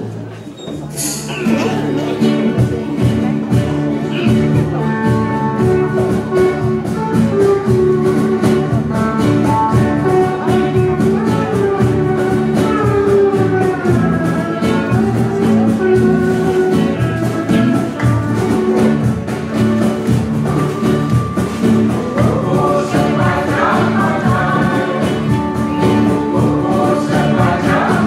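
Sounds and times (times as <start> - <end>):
guitars strummed: 1.1 - 28.0
live band dance music: 1.2 - 28.0.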